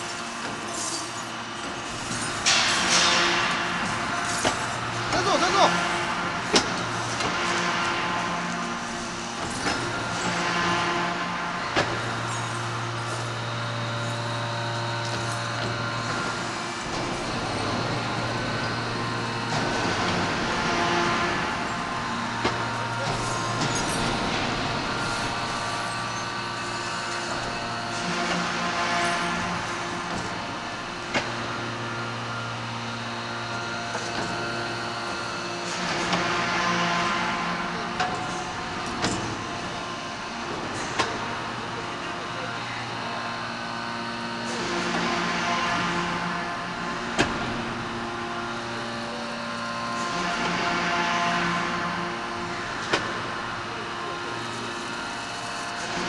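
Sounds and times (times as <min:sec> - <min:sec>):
hydraulic press hum and whine: 0:00.0 - 0:56.0.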